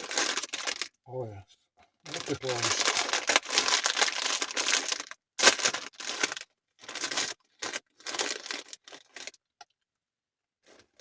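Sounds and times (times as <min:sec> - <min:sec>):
crinkling and rustling handling: 0:00.0 - 0:09.9, 0:10.6 - 0:11.0.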